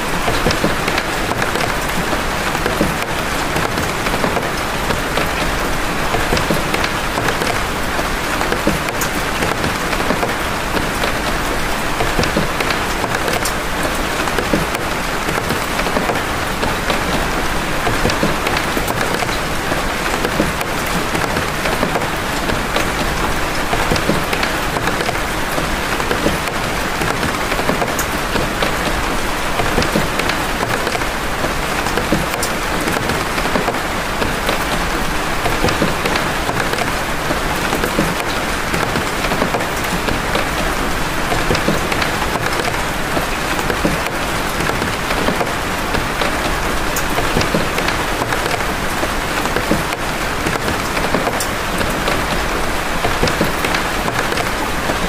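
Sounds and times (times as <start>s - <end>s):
big raindrops hitting: 0.0s - 55.0s
rain hiss: 0.0s - 55.0s.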